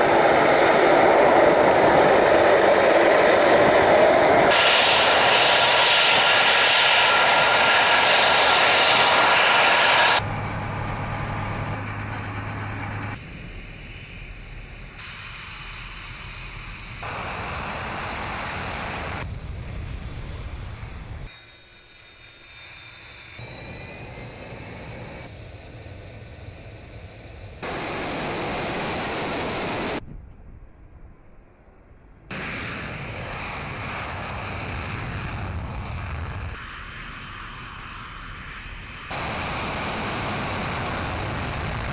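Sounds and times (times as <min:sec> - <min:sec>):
jet engine turbine whine: 0:00.0 - 0:30.0, 0:32.0 - 0:41.9
turboprop engines roaring: 0:00.0 - 0:41.9.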